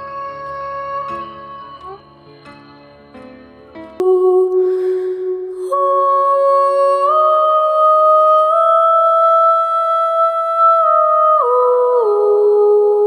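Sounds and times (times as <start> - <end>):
slow ethereal music: 0.0 - 13.0.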